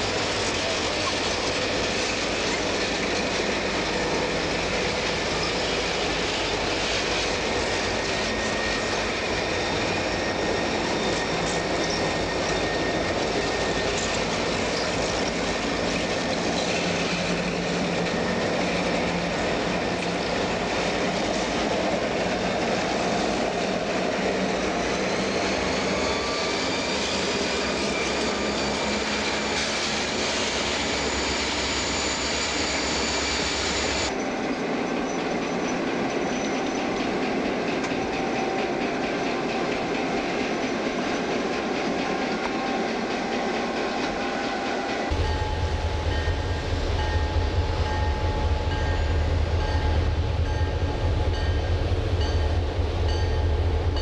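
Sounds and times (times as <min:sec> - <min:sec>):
diesel locomotive engines: 0:00.0 - 0:54.0
steel wheels rumbling on rail: 0:00.0 - 0:54.0.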